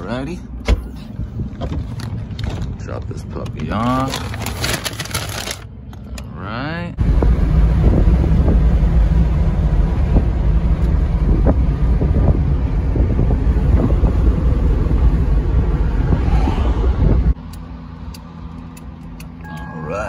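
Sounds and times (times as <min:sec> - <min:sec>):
wind and road rumble inside car: 0:00.0 - 0:20.0.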